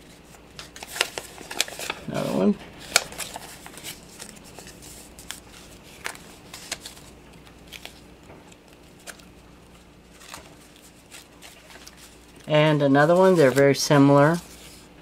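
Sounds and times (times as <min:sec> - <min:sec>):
paper rustling: 0:00.0 - 0:14.9.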